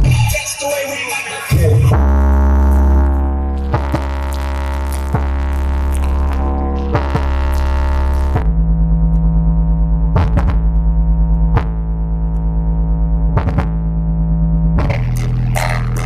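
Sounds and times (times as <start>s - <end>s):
deep synth bass tone wobbling: 0.0s - 0.5s, 1.5s - 16.0s.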